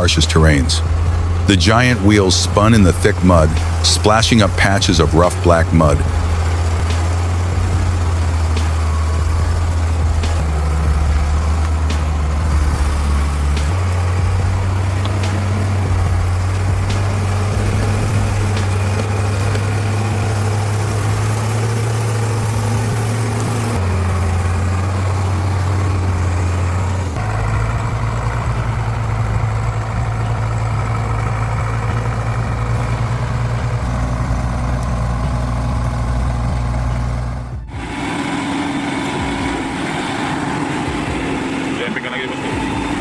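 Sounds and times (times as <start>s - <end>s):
diesel truck engines running: 0.0s - 43.0s.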